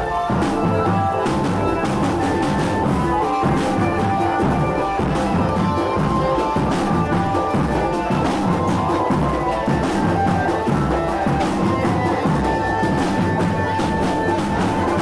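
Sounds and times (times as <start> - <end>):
bass drums: 0.0 - 15.0
held melody line: 0.0 - 15.0
snare drums: 0.0 - 15.0.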